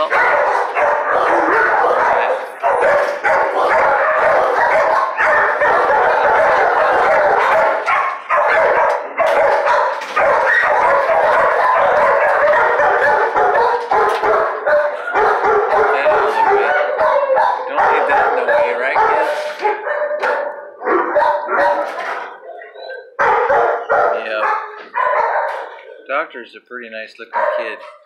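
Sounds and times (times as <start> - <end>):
dogs barking and yipping: 0.0 - 26.2, 27.2 - 28.0.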